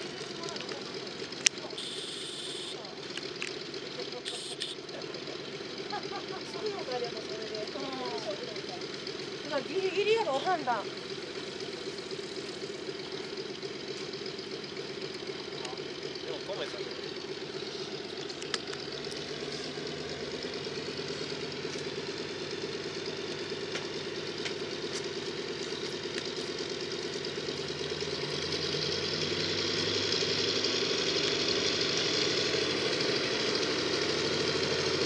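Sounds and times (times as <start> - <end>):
propeller aircraft engine running: 0.0 - 35.0.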